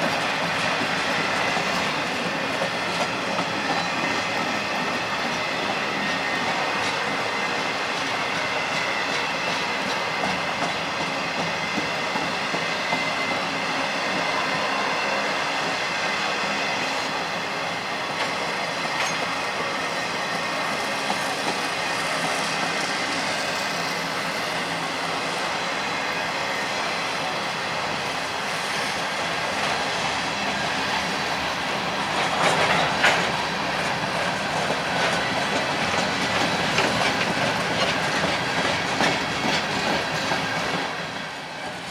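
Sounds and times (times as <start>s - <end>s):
train clattering: 0.0s - 41.9s.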